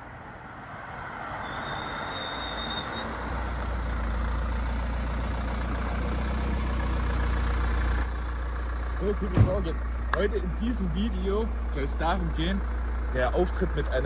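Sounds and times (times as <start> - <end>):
moving car noise: 0.0 - 14.0
brakes squealing: 1.0 - 14.0.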